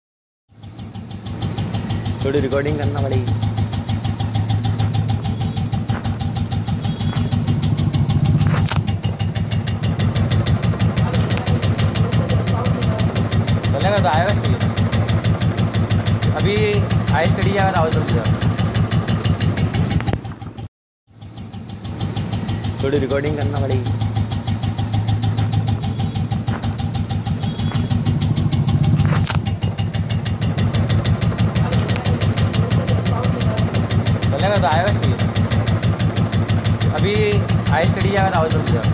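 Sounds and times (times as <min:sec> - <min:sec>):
motorcycle engine idling: 0:00.5 - 0:38.9
rapid engine ticking: 0:00.5 - 0:38.9.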